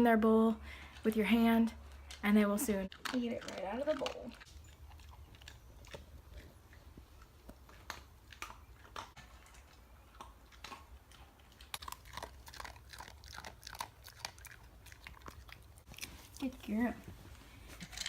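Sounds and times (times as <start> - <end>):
dog crunching and chewing food: 0.8 - 18.0.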